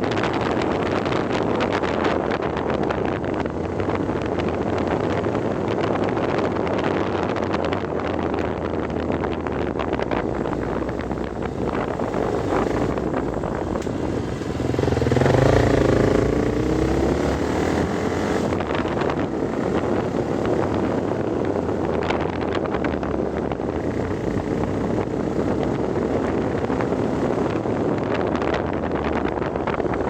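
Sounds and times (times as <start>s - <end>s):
vehicle engine running: 0.0s - 30.0s
wind and road noise: 0.0s - 30.0s.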